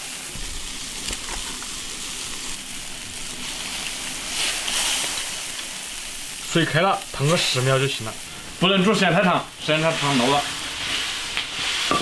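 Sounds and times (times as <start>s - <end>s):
broth bubbling in a wok: 0.0s - 12.0s.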